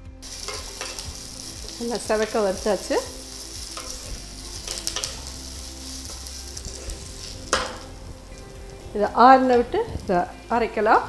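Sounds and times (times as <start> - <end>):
spices sizzling in a wok: 0.0 - 11.0
wooden spatula scraping: 0.2 - 10.3.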